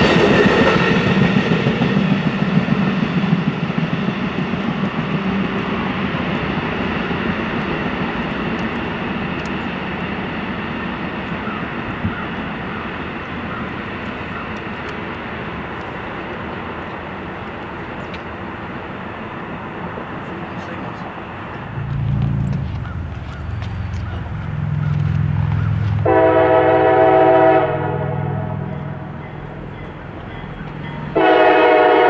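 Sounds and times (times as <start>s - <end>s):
passenger train rumbling: 0.0s - 32.0s.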